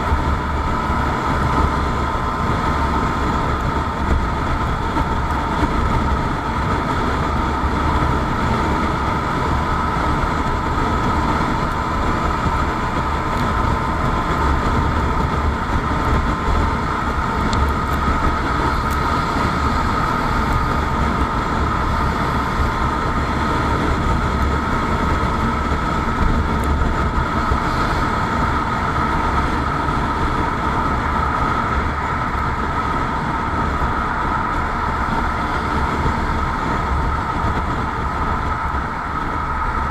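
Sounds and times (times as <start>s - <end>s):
motorcycle cruising: 0.0s - 39.9s
road noise: 0.0s - 39.9s.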